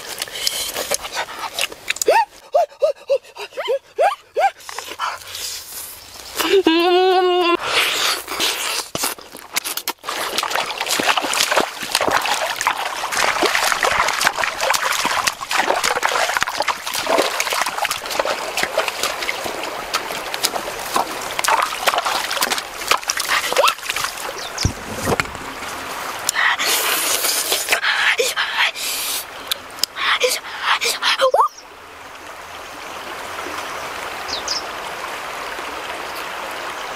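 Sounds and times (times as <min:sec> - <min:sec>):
water splashing and trickling: 0:00.0 - 0:36.9.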